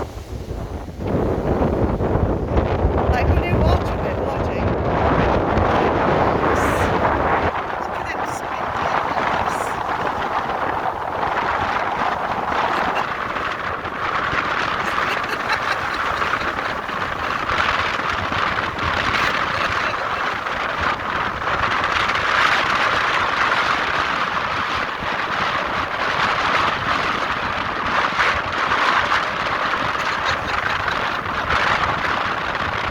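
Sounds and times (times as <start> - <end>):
strong wind on microphone: 0.0 - 32.9.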